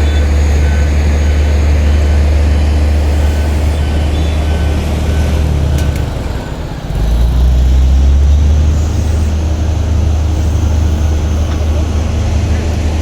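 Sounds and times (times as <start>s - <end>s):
bulldozer diesel engine rumbling: 0.0s - 13.0s.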